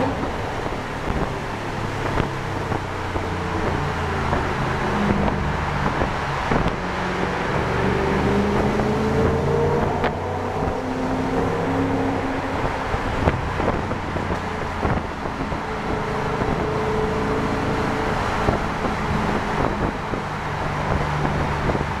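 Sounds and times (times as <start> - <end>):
car engine revving under throttle: 0.0 - 22.0.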